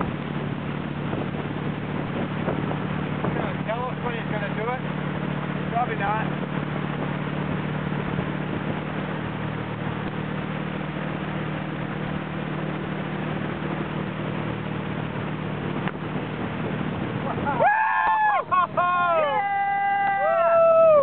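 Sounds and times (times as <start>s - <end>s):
boat engine humming: 0.0s - 21.0s
wind and water rushing: 0.0s - 21.0s.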